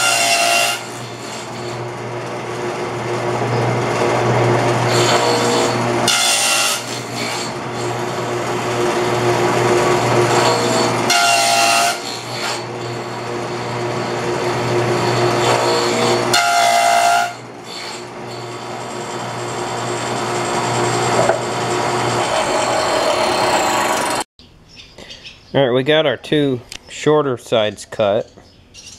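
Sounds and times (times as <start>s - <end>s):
saw motor hum: 0.0s - 24.2s
table saw cutting board: 0.0s - 24.3s.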